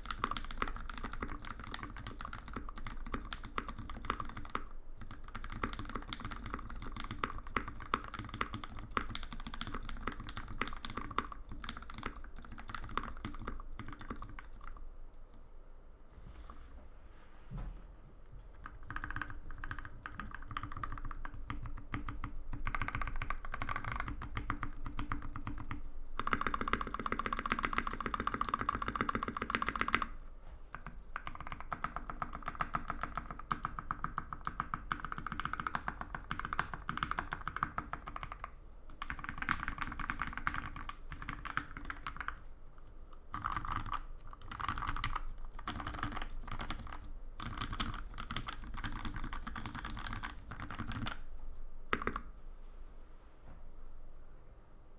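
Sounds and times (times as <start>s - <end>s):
mechanical keyboard typing: 0.0s - 14.8s, 18.5s - 30.1s, 30.7s - 42.4s, 43.3s - 51.2s, 51.9s - 52.3s.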